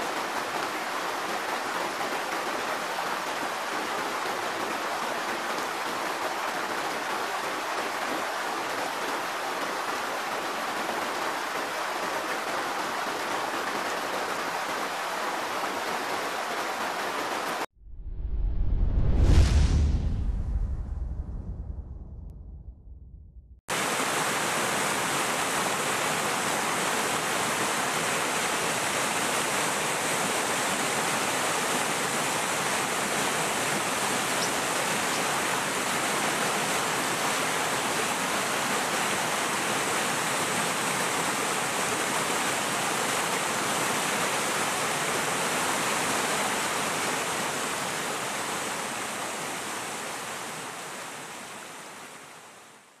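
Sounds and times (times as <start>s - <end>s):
rushing water: 0.0s - 17.7s, 23.7s - 52.9s.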